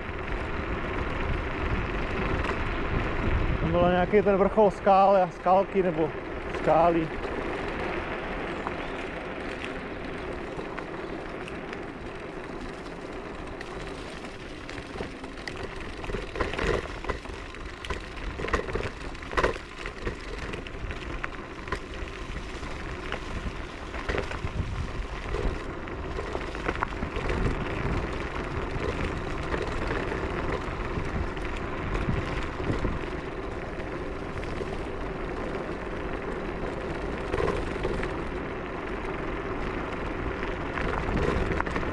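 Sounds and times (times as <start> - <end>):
electric scooter hum: 0.0 - 41.9
tyre and wind noise: 0.0 - 41.9.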